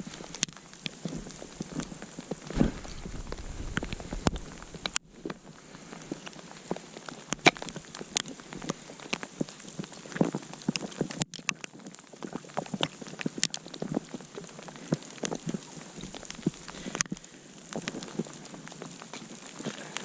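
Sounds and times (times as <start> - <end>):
campfire crackling: 0.0 - 20.0
fire pops and snaps: 0.0 - 20.0
light hiss: 0.0 - 20.0.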